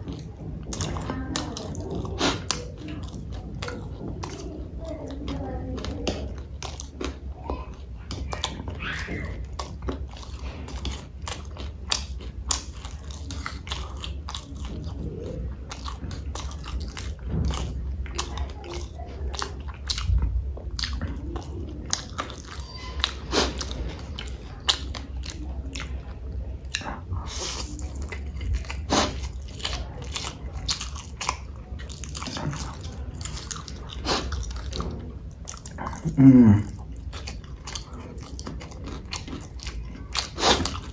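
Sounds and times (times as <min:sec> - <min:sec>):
low steady hum: 0:00.0 - 0:40.9
person chewing and biting: 0:00.0 - 0:40.9.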